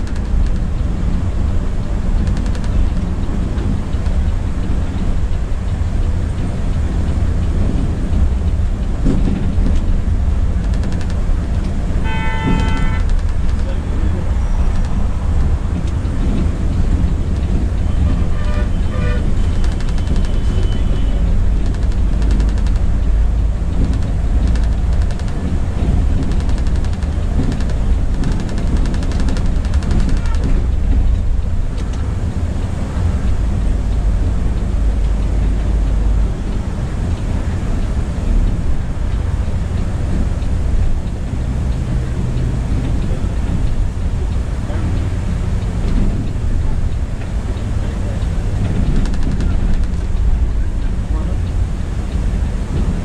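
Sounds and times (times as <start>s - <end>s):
coach engine and road rumble: 0.0s - 53.0s.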